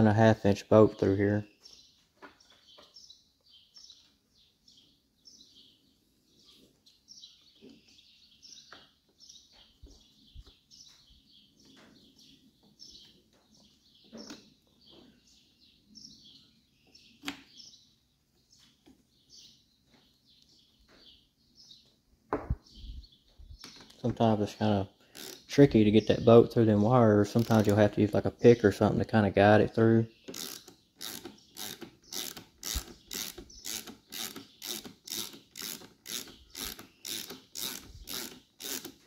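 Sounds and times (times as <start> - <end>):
faint birds chirping: 0.0 - 39.0.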